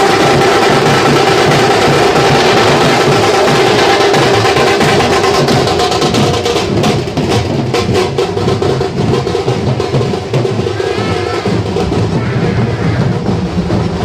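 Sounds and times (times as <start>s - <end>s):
drums beating driving rhythm: 0.0s - 14.0s.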